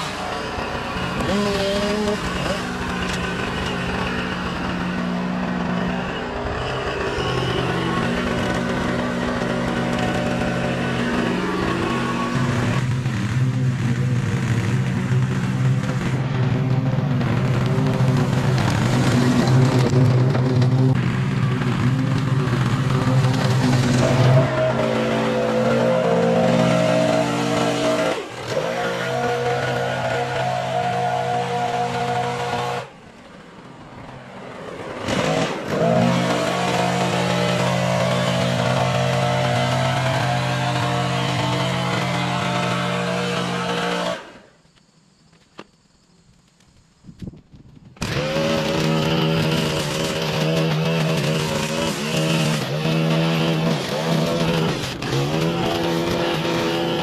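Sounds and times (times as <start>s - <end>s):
tractor diesel engine running: 0.0s - 44.4s, 48.0s - 57.0s
leaf blower droning: 0.0s - 44.6s, 48.0s - 57.0s.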